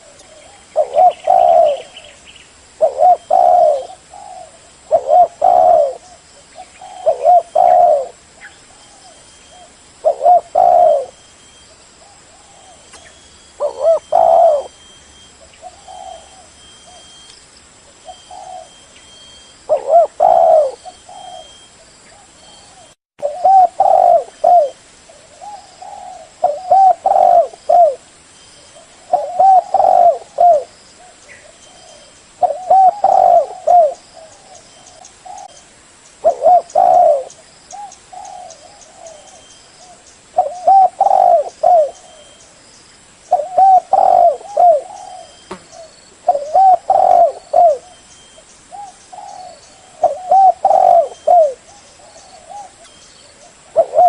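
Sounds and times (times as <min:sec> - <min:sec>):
dove cooing: 0:00.0 - 0:02.2, 0:02.8 - 0:17.2, 0:18.0 - 0:28.1, 0:28.7 - 0:35.6, 0:36.2 - 0:42.5, 0:43.3 - 0:54.0.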